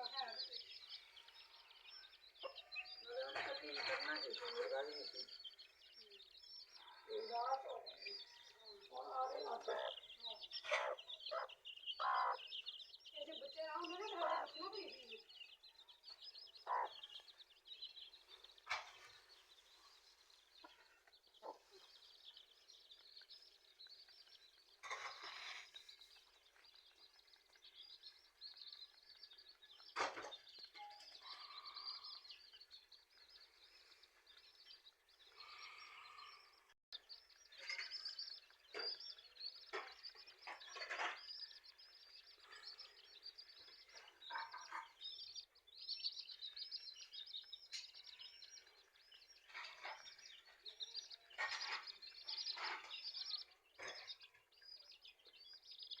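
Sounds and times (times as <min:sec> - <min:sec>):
chicks peeping: 0:00.0 - 0:56.0.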